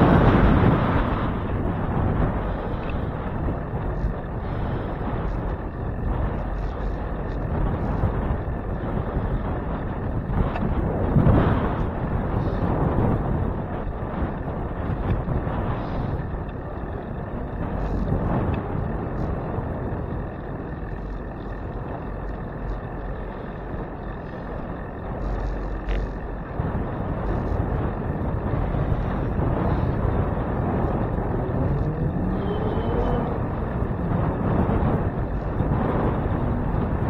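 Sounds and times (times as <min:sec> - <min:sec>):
faint rising whine: 0:00.0 - 0:37.0
wind buffeting microphone: 0:00.0 - 0:37.0.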